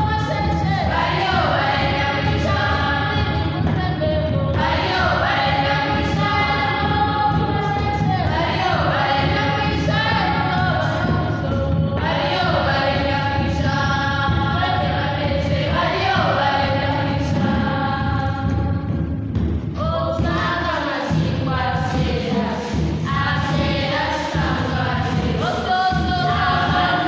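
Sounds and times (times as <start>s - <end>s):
drums beating: 0.0s - 27.0s
girls choir singing folksong: 0.0s - 27.0s.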